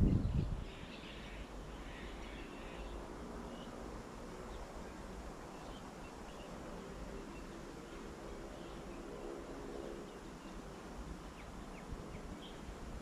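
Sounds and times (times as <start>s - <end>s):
small birds chirping: 0.0s - 9.3s, 10.0s - 13.0s.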